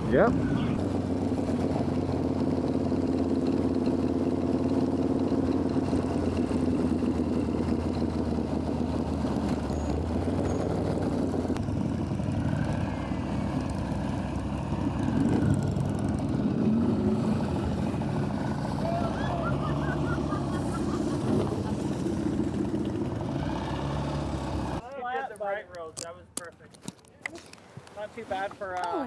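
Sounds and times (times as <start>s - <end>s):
motorcycle engine running: 0.0s - 24.8s.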